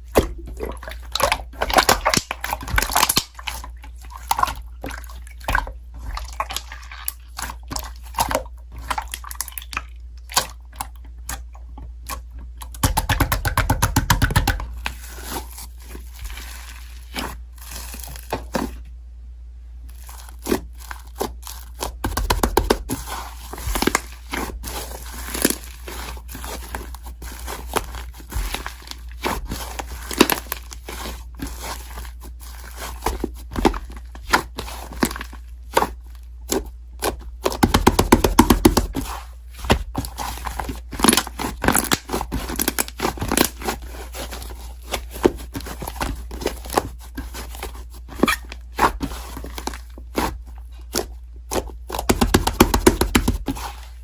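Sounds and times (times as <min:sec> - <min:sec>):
slime squishing by hand: 0:00.0 - 0:19.0, 0:19.8 - 0:54.0.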